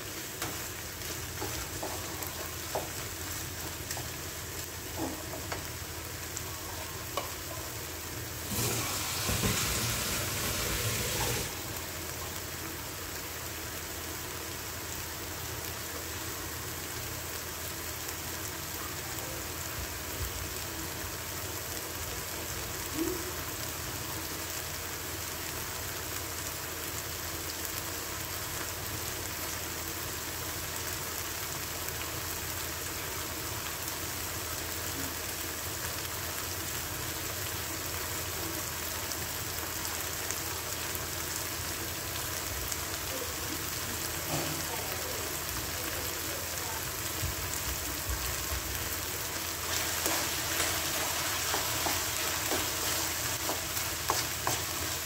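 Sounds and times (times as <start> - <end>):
shrimp sizzling in a wok: 0.0 - 55.0.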